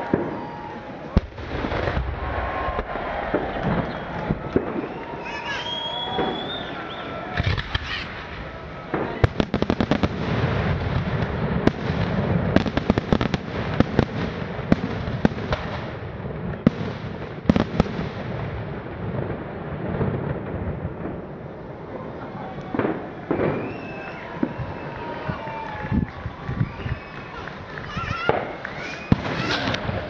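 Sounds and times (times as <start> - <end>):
fireworks cracking and banging: 0.0 - 30.0.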